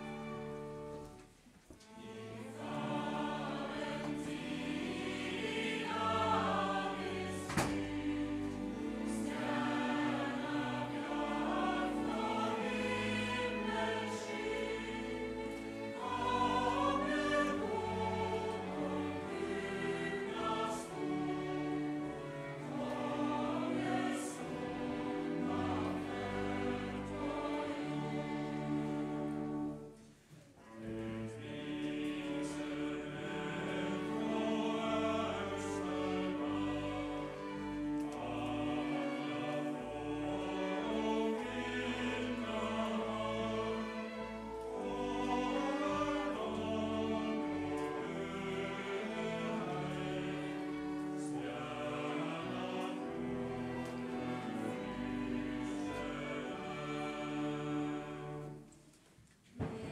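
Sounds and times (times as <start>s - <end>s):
string orchestra accompaniment: 0.0s - 59.9s
mixed choir singing a hymn: 1.8s - 29.9s, 30.8s - 58.6s, 59.5s - 59.9s.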